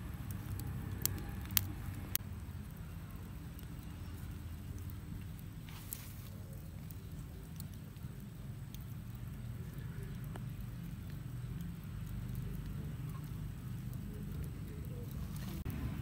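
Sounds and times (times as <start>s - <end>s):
fire crackling: 0.0s - 16.0s
steady low rumble: 0.0s - 16.0s.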